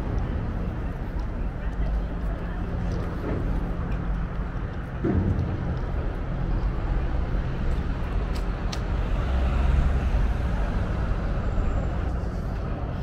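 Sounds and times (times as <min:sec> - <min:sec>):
cars rumbling past: 0:00.0 - 0:13.0.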